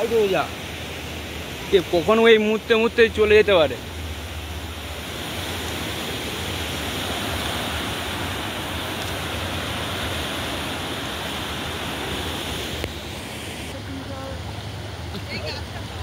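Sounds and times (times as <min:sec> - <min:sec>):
flooded river rushing: 0:00.0 - 0:16.0.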